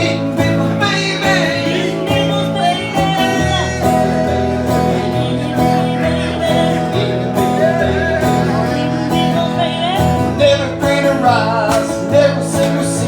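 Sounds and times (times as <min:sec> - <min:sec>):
acoustic guitar band playing: 0:00.0 - 0:13.0.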